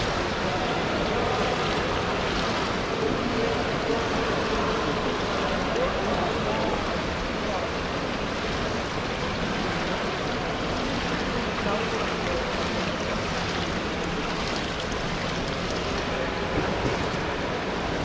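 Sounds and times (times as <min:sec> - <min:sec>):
murmur of voices: 0:00.0 - 0:18.0
pool water washing: 0:00.0 - 0:18.0.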